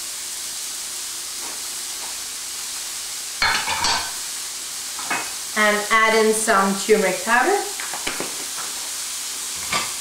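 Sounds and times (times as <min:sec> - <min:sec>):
cabbage sizzling in hot oil: 0:00.0 - 0:10.0.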